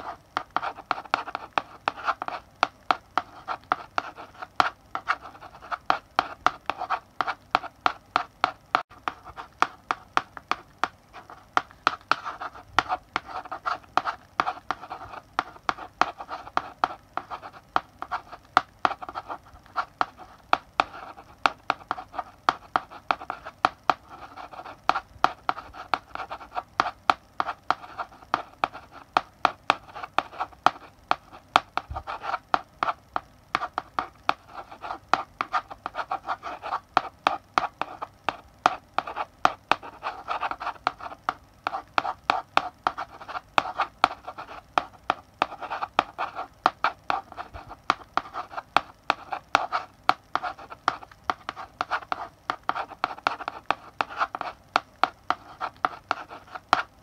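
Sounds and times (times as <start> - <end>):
chalk scratching on blackboard: 0.0 - 57.0
chalk tapping on board: 0.0 - 57.0.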